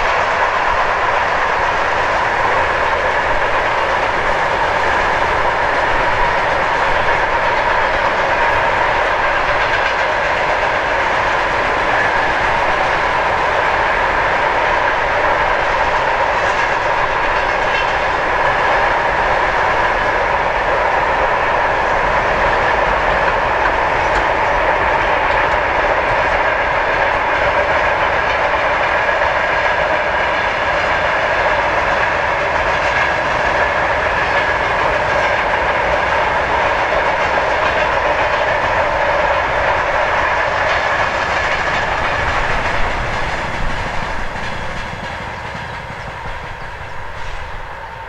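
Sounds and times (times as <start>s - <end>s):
freight train wagons rolling: 0.0s - 48.0s.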